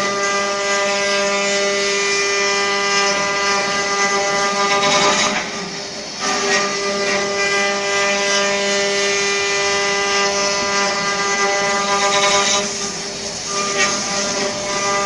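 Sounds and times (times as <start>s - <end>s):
wood router machine whine: 0.0s - 15.0s.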